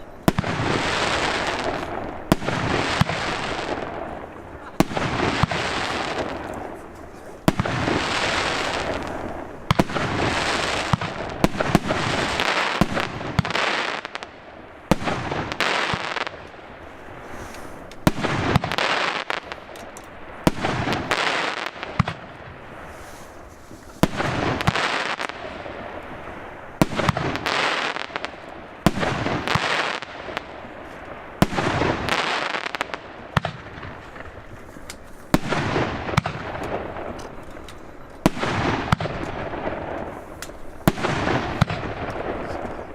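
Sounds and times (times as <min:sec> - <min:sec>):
fireworks shots: 0:00.0 - 0:42.9
hissing firework bursts: 0:00.0 - 0:42.9.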